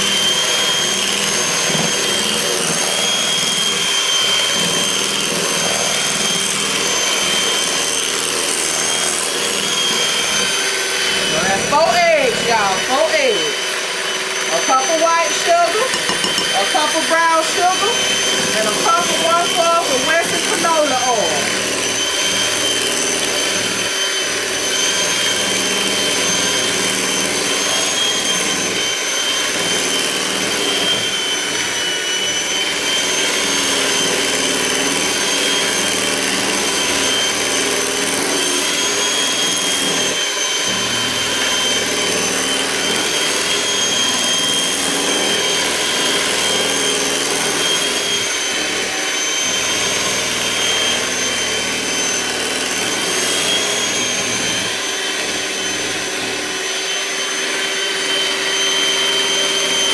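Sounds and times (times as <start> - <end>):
electric mixer whining: 0.0 - 59.9.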